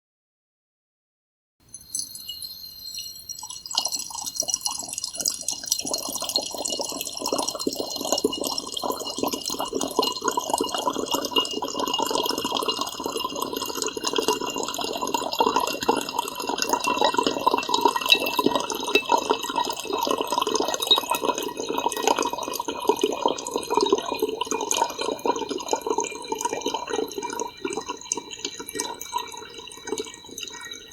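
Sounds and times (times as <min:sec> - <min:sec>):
water trickling into vase: 0:01.7 - 0:30.9.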